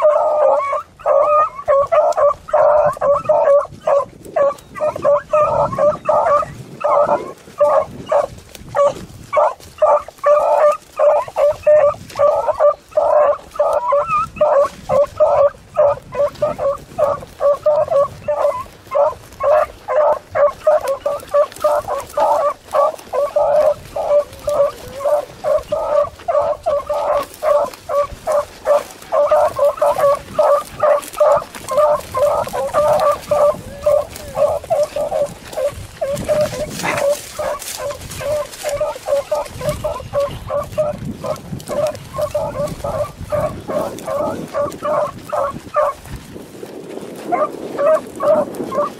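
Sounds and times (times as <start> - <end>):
hounds baying: 0.0 - 46.3, 47.1 - 48.9.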